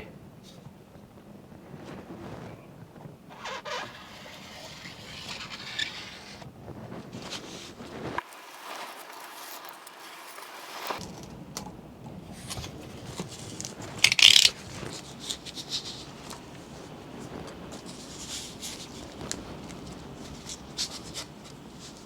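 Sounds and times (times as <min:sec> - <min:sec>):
foam packaging rubbing and scraping: 0:01.7 - 0:11.1, 0:12.3 - 0:22.0
packaging rustle: 0:03.3 - 0:11.4, 0:12.3 - 0:22.0.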